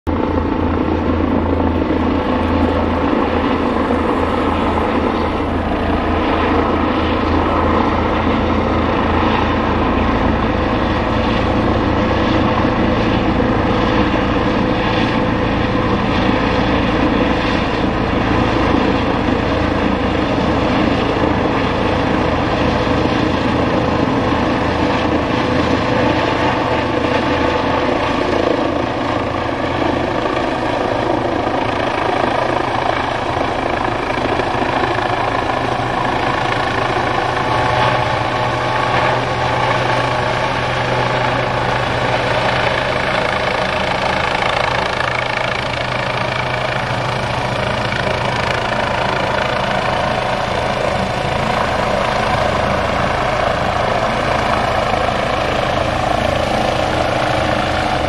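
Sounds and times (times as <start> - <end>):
helicopter engine whine: 0.1 - 58.0
helicopter rotor beat: 0.1 - 58.0.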